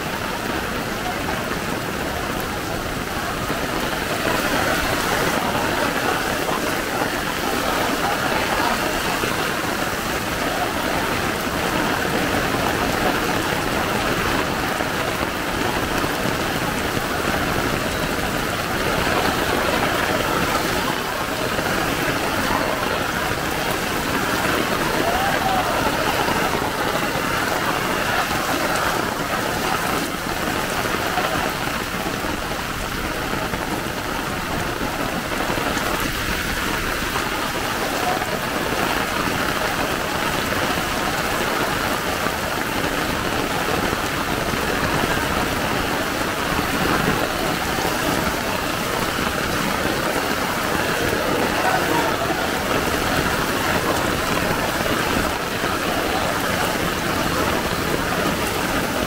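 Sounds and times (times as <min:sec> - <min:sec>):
heavy rain on standing water: 0:00.0 - 0:59.0.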